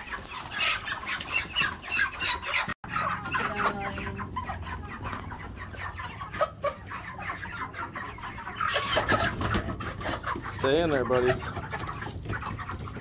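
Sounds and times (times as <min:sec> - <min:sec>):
chickens clucking and peeping: 0:00.0 - 0:13.0.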